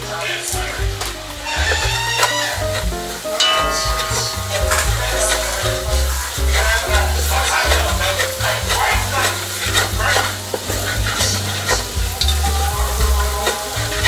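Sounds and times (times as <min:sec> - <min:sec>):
background music with strong bass: 0:00.0 - 0:14.0
sauce sizzling in a pot: 0:00.0 - 0:14.0.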